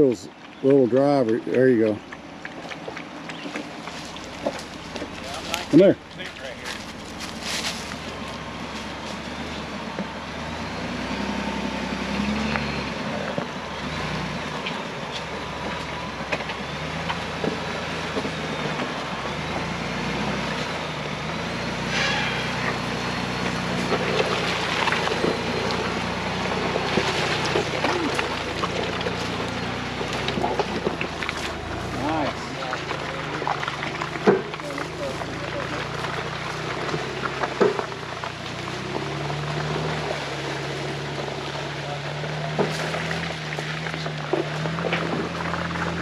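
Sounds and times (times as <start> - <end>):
truck engine crawling: 0.0 - 46.0.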